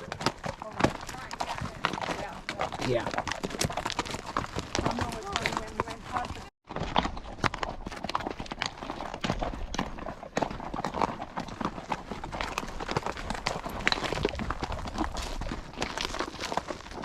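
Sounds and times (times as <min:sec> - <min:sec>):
horse hooves on dirt: 0:00.0 - 0:17.0.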